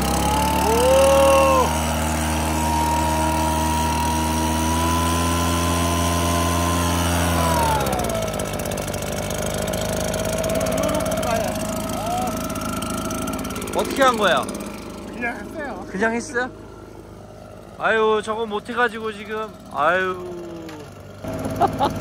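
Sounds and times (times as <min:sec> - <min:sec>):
backpack blower engine running: 0:00.0 - 0:22.0.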